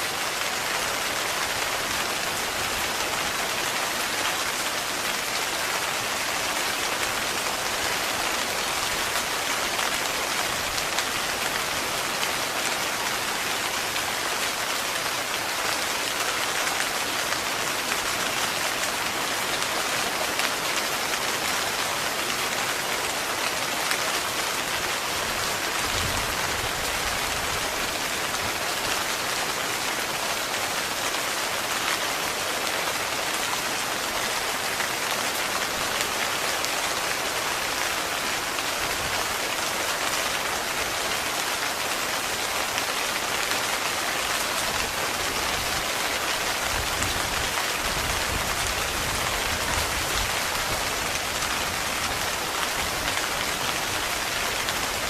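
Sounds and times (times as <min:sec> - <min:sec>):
heavy rain on a tent: 0:00.0 - 0:55.0.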